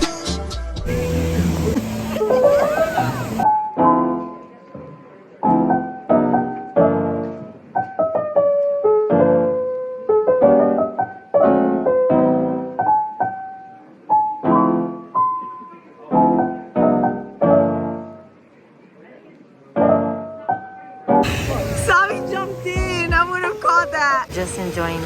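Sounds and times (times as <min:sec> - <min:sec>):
piano chords and notes: 0:00.0 - 0:18.5, 0:19.6 - 0:25.0.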